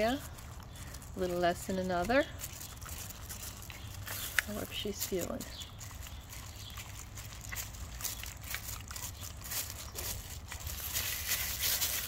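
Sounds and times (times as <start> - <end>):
plastic crinkling: 0.0 - 12.0
dog licking and smacking: 0.4 - 10.7.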